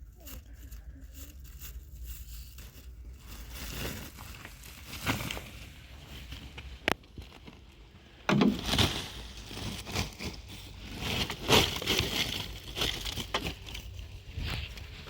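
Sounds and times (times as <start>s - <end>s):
crunching and cracking: 0.0s - 15.0s.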